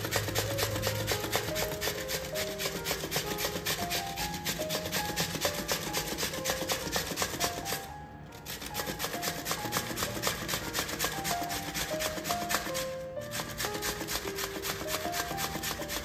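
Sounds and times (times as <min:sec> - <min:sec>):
radish grating on metal grater: 0:00.0 - 0:16.0.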